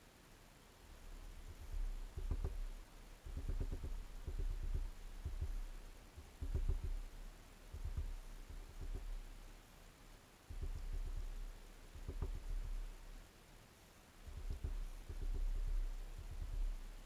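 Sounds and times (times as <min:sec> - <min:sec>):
bird pecking at feeder: 0:00.9 - 0:09.6, 0:10.5 - 0:13.2, 0:14.2 - 0:17.0.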